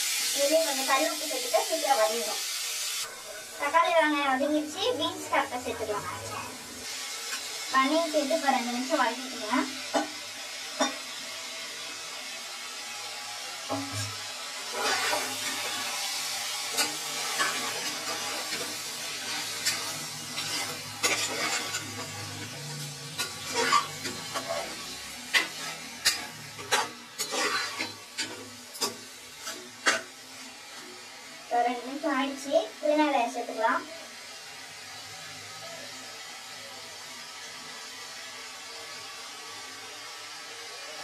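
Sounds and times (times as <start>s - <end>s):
frying sizzle: 0.0s - 41.0s.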